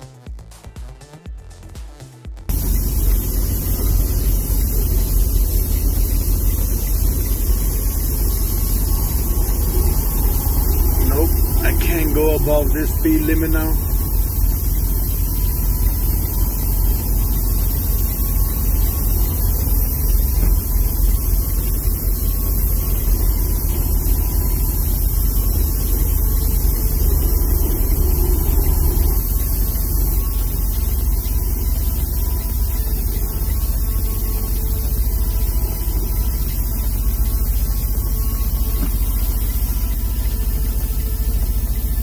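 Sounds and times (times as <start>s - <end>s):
truck engine drone from cab: 2.5s - 42.0s.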